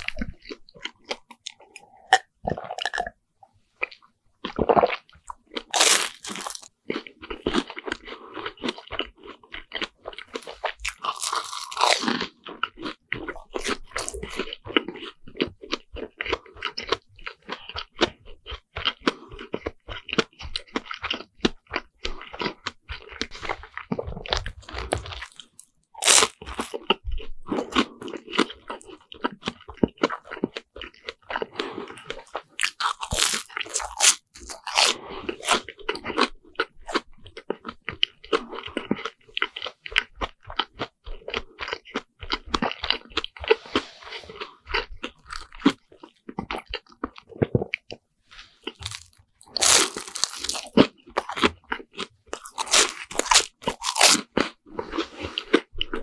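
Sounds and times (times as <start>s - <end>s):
crunchy chewing: 0.0s - 3.2s, 3.8s - 56.0s.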